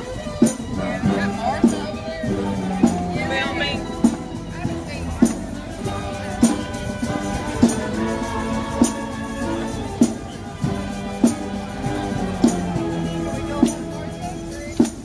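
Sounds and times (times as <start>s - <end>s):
band playing a slow march: 0.0s - 15.0s.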